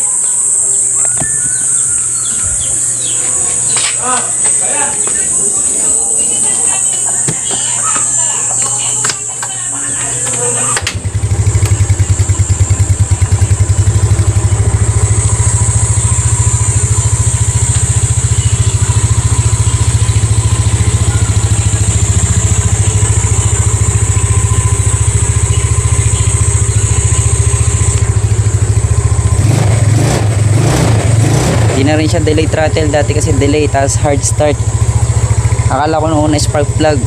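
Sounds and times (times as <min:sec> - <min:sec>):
scooter engine idling: 0:00.0 - 0:37.0.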